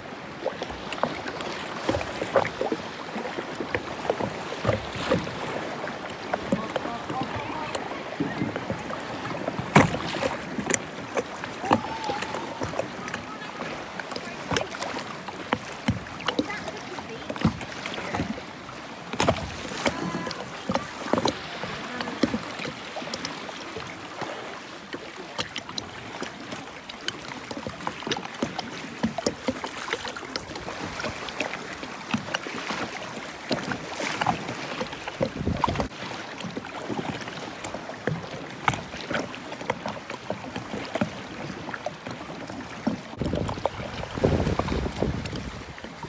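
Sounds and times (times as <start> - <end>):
water splashing around kayak: 0.0 - 46.0
waves washing against rocks: 0.0 - 46.0.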